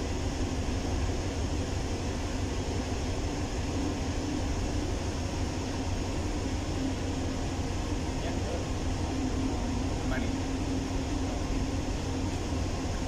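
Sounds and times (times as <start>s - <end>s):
engine room machinery drone: 0.0s - 13.0s.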